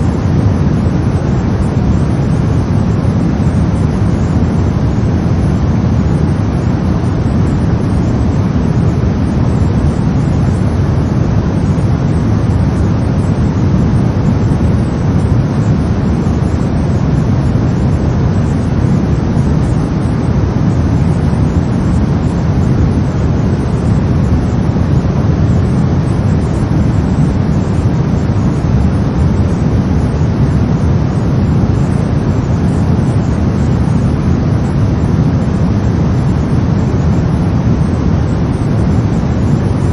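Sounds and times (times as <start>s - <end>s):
deep rumbling brown noise: 0.0s - 39.9s.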